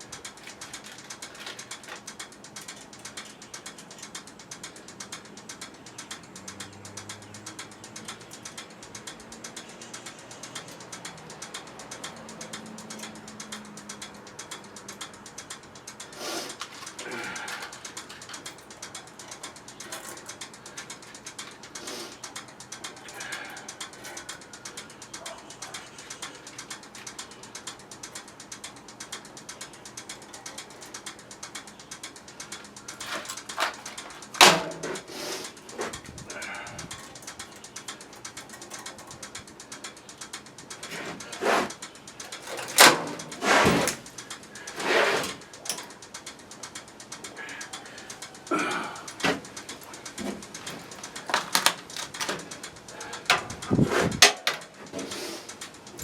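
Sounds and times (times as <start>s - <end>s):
sharp metal clicks and knocks: 0.0s - 56.0s
tool ratcheting: 0.0s - 56.0s.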